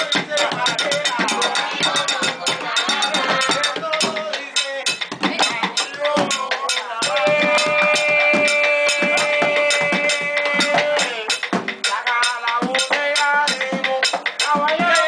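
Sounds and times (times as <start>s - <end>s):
fast drum and wood-block beat: 0.0s - 15.0s.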